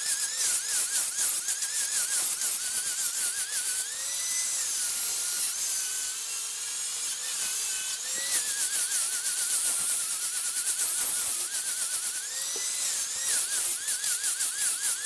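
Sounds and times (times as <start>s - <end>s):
wood lathe cutting hiss: 0.0s - 15.0s.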